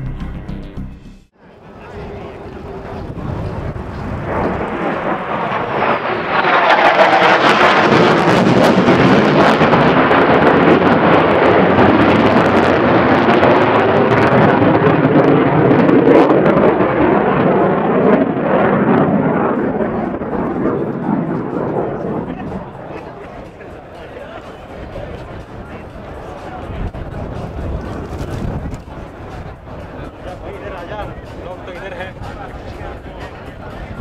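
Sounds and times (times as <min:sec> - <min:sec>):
loud crackling jet flypast: 0:01.4 - 0:34.0.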